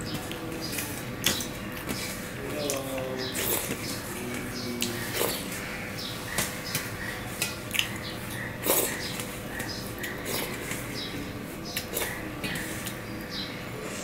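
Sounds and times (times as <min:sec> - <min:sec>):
wet eating sounds: 0:00.0 - 0:13.0.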